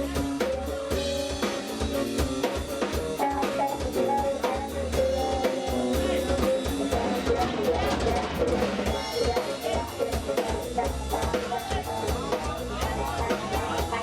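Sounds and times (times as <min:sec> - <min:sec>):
bass line: 0:00.0 - 0:14.0.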